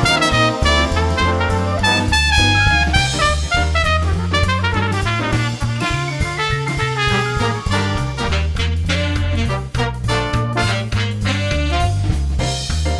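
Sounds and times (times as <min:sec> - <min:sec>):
upbeat swing jazz music: 0:00.0 - 0:12.9.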